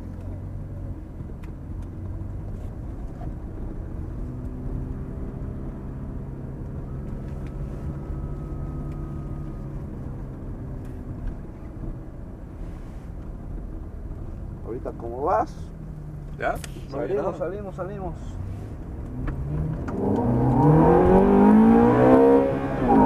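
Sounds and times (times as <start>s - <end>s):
car engine at low revs: 0.0s - 23.0s.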